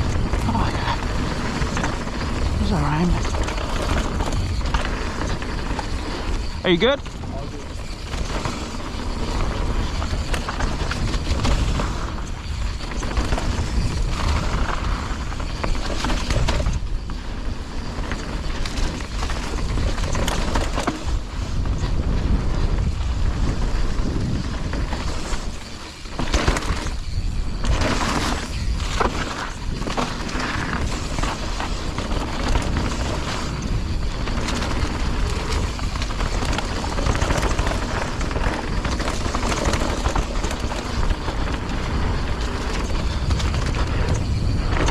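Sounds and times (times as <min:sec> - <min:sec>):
bike rattling over bumps: 0:00.0 - 0:44.9
bike tyres rolling on dirt: 0:00.0 - 0:44.9
wind buffeting microphone: 0:00.0 - 0:44.9.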